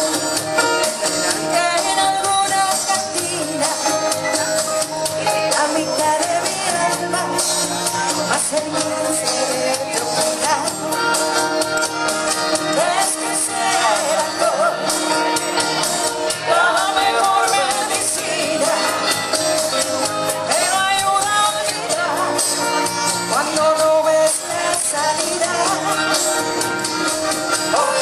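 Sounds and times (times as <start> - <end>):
latin dance band playing: 0.0 - 28.0
person singing: 1.1 - 11.5, 12.5 - 15.2, 16.3 - 19.7, 20.3 - 28.0.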